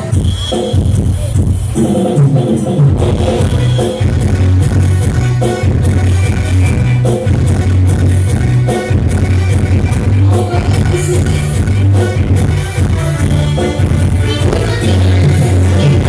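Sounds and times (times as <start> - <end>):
drum strokes: 0.0 - 16.0
held bass notes: 0.0 - 16.0
live ensemble music: 0.0 - 16.0.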